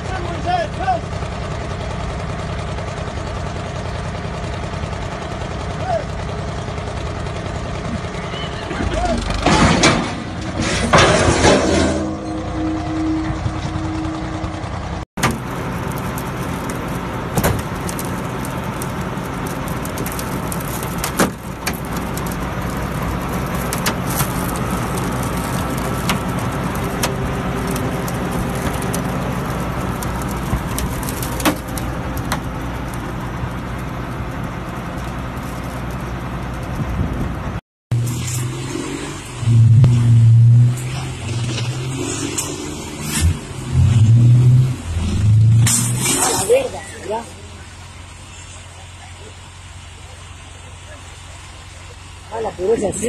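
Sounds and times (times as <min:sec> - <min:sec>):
loud low engine drone: 0:00.0 - 0:53.0
vehicle engine running: 0:00.0 - 0:53.0.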